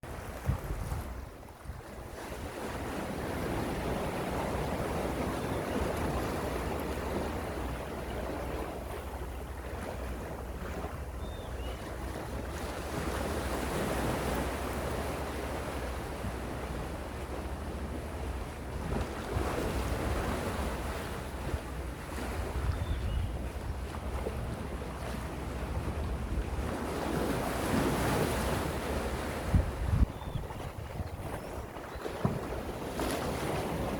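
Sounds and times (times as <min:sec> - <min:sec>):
wind rumble on microphone: 0:00.0 - 0:33.9.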